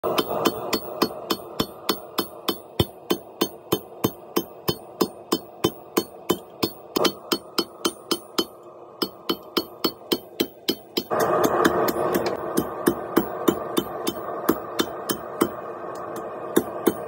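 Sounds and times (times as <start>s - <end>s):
hammer striking steel on anvil: 0.0s - 17.0s.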